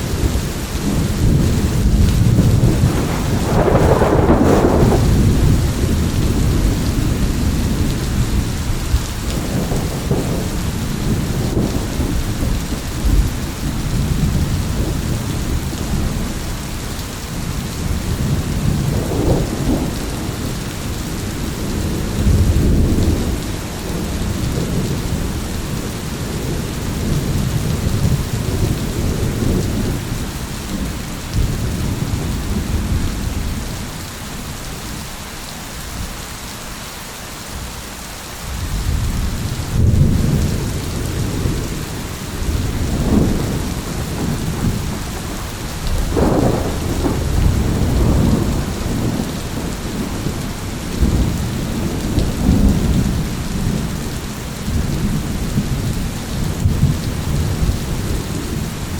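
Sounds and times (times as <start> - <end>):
rolling thunder: 0.0 - 34.5, 38.5 - 58.9
heavy rain: 0.0 - 58.9.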